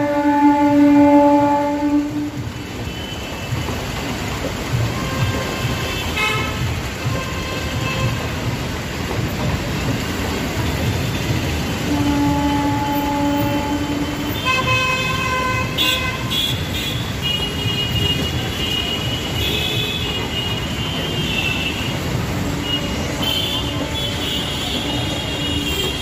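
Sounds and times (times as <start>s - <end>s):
train horn toots: 0.0s - 3.9s, 4.8s - 8.4s, 11.1s - 26.0s
train rumbling on track: 0.0s - 26.0s.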